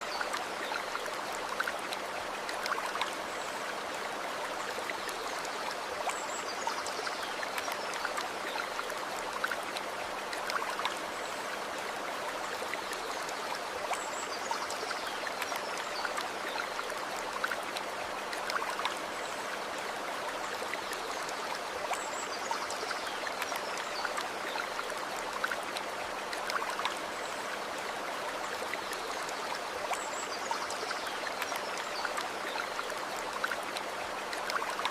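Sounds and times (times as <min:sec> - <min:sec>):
stream of water running: 0:00.0 - 0:34.9.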